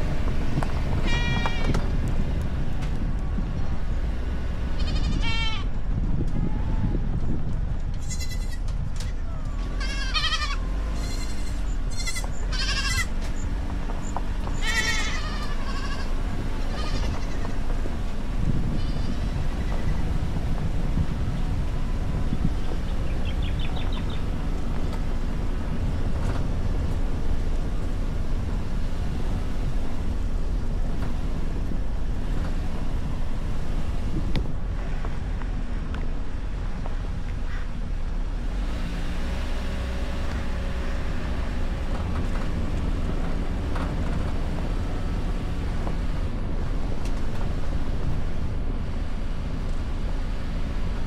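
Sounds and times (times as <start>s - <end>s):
car engine and tyres rumbling: 0.0s - 51.0s
wind noise on microphone: 0.0s - 51.0s.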